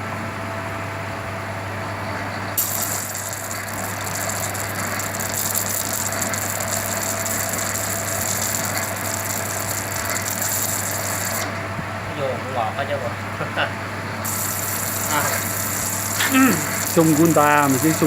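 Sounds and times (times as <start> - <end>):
low machine hum: 0.0 - 18.0
machine crackling rattle: 1.7 - 12.2, 14.0 - 18.0.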